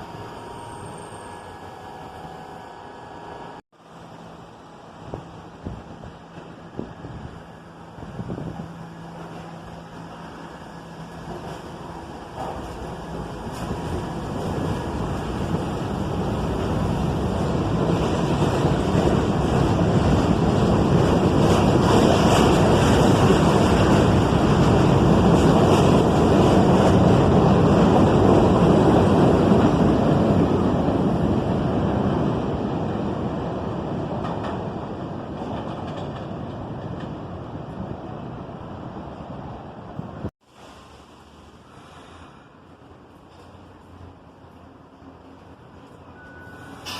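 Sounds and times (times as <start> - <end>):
subway train passing: 0.0 - 46.9.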